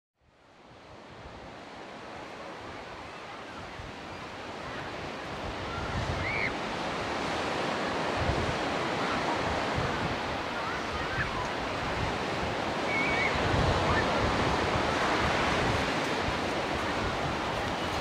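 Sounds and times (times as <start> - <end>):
sea waves washing onto shore: 0.5 - 18.0
wind buffeting microphone: 2.6 - 18.0.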